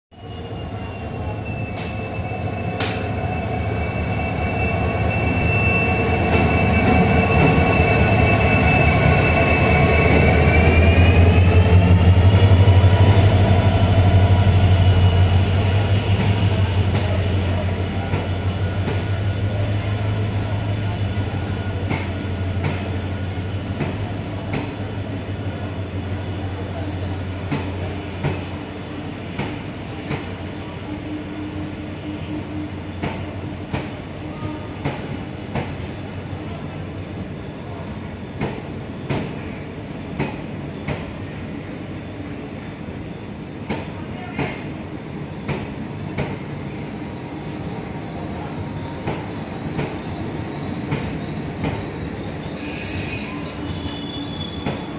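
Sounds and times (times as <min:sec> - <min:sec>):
passenger train drone and whine: 0:00.1 - 0:54.9.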